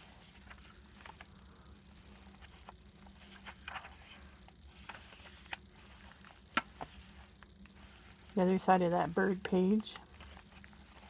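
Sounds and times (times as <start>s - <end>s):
paper pages rustling: 0.0s - 1.3s, 1.9s - 8.4s, 9.0s - 11.0s.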